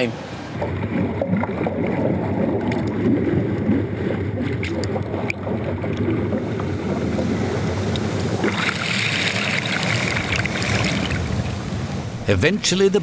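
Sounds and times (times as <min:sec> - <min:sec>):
rush of sea water and wind: 0:00.0 - 0:13.0.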